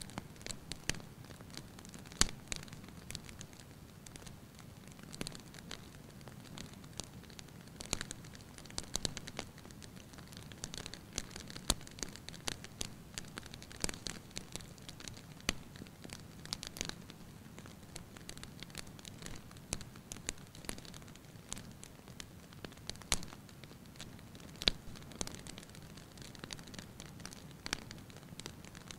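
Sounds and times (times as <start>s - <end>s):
wood fire crackling and popping: 0.0s - 28.9s.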